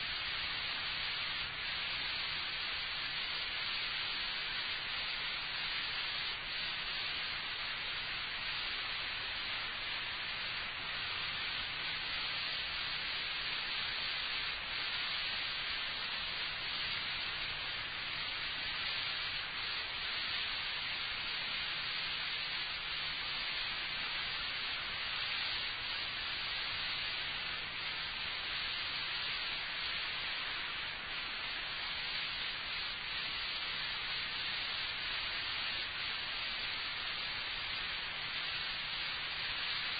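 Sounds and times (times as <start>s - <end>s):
tape hiss: 0.0s - 39.9s.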